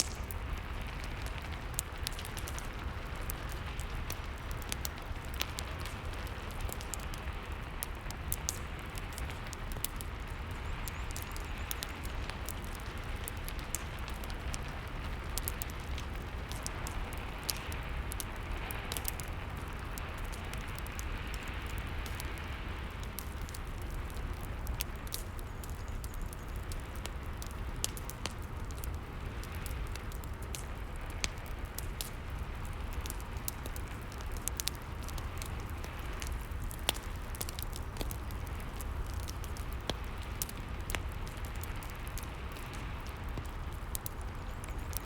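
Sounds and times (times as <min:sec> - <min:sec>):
burning wood crackling: 0:00.0 - 0:45.0
steady rain hiss: 0:00.0 - 0:45.0.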